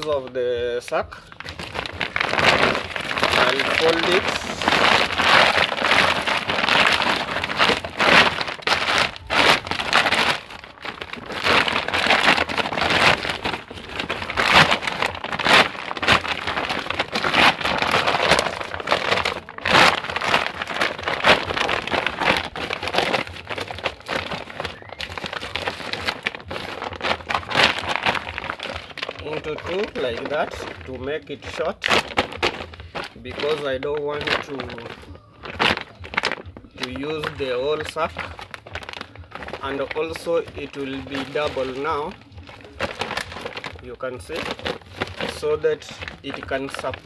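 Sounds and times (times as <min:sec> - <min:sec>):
plastic sack crinkling: 0:00.0 - 0:47.0.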